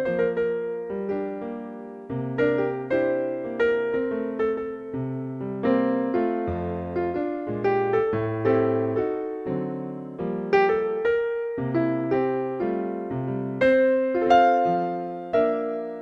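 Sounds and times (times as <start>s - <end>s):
soft piano melody: 0.0s - 16.0s.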